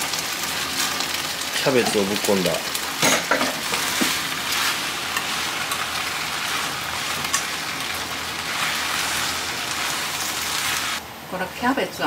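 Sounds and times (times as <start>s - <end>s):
cabbage sizzling in a pan: 0.0s - 12.0s.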